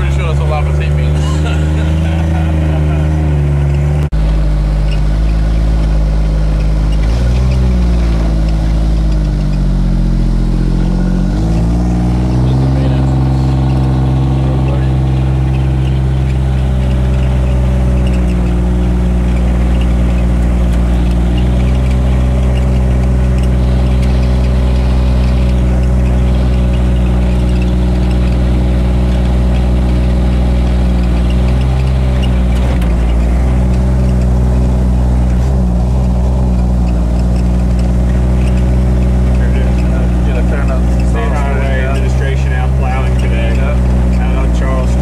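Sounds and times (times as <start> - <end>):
utility vehicle engine running: 0.0 - 45.0.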